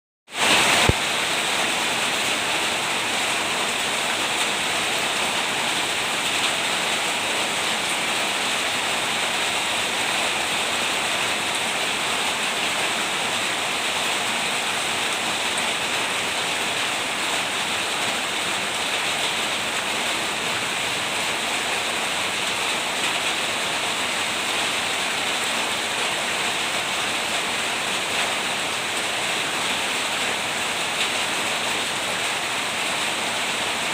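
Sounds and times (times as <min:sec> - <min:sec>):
rain falling: 0:00.3 - 0:33.9.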